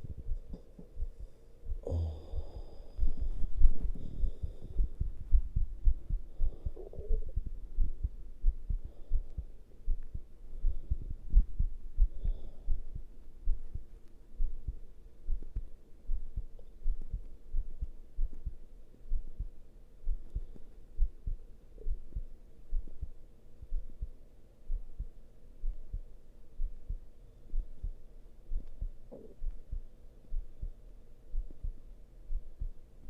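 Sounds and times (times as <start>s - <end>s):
heartbeat thumps: 0.0s - 32.8s.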